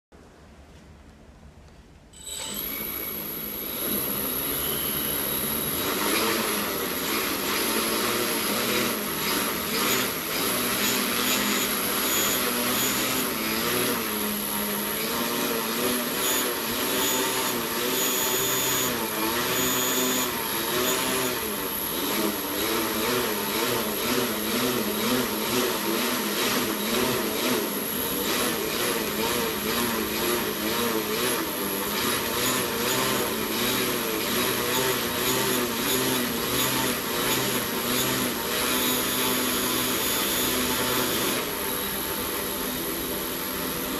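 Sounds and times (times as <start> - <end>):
motor running with whine: 2.2 - 43.9.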